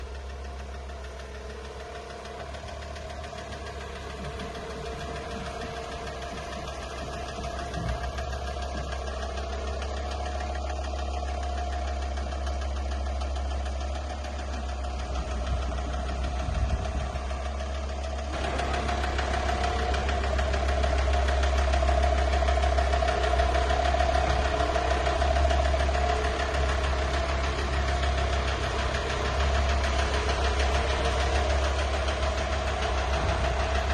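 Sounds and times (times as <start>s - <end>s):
van engine idling: 0.0s - 33.9s.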